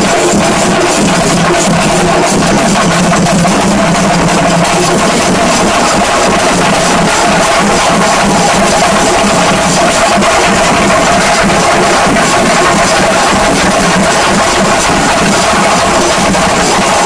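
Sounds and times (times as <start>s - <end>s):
many drums rapid stick strokes: 0.0s - 17.0s.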